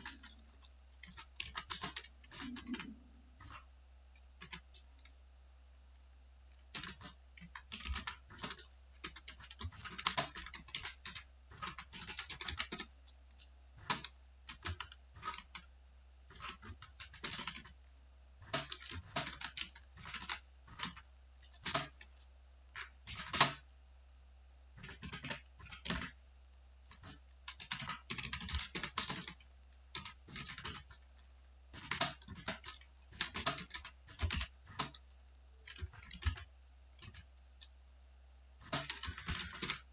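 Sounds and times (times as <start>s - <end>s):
keyboard keys clicking: 0.0s - 5.2s, 6.6s - 15.7s, 16.3s - 17.8s, 18.4s - 23.6s, 26.9s - 31.1s, 31.7s - 37.7s, 38.6s - 39.9s.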